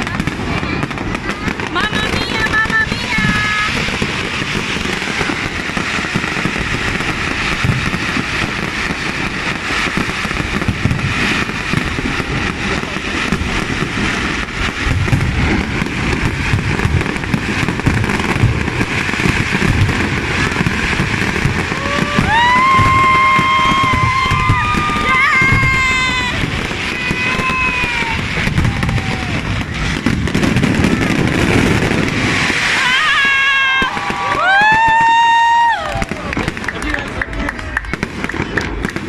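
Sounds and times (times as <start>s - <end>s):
fireworks crackling and banging: 0.0s - 39.0s.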